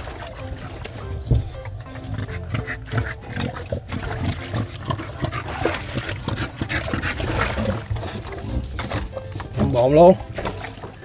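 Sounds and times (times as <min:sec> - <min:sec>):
dog grunting: 0:00.3 - 0:11.0.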